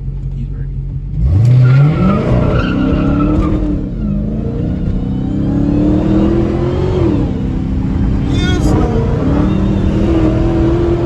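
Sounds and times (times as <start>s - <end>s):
car engine accelerating hard: 0.1s - 11.0s.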